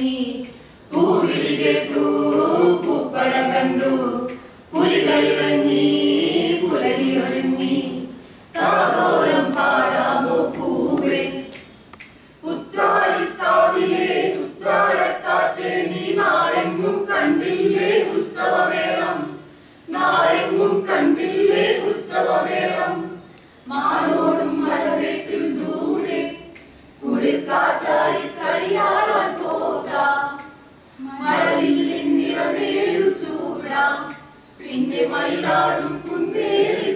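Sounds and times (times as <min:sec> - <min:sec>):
group singing unaccompanied: 0:00.0 - 0:36.9.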